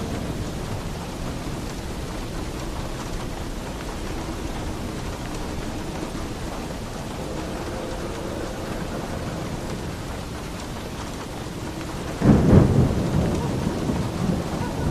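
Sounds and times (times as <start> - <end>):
heavy rain on a roof: 0.0 - 14.9.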